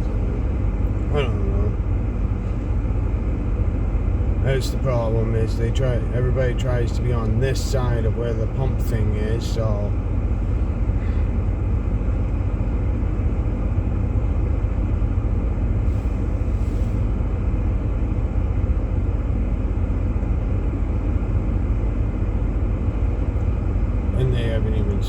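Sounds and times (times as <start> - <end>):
car engine rumble from inside: 0.0 - 25.0.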